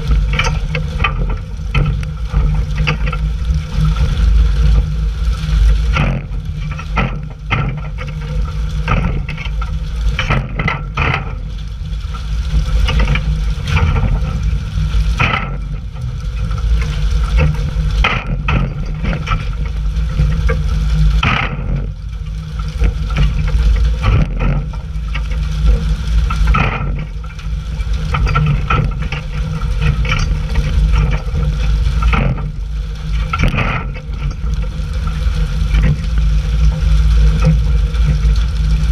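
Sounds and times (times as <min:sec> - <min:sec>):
boat engine running: 0:00.0 - 0:38.9
water spraying and splashing: 0:00.0 - 0:38.9.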